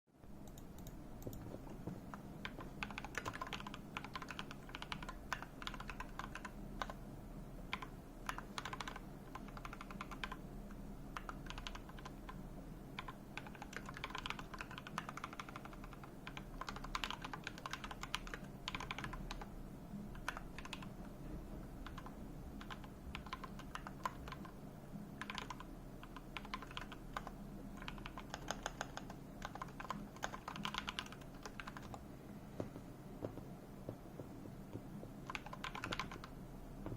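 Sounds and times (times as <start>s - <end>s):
faint low hum: 0.1s - 36.9s
computer keyboard typing: 0.4s - 7.0s, 7.7s - 19.5s, 20.1s - 32.0s, 34.1s - 36.4s.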